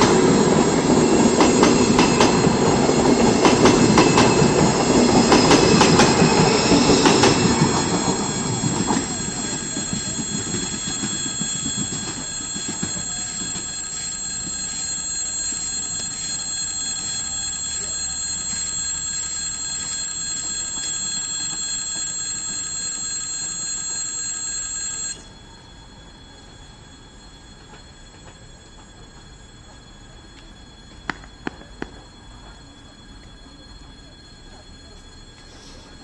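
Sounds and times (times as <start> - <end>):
electric train running on track: 0.0 - 36.0
high-pitched ringing tones: 0.0 - 36.0.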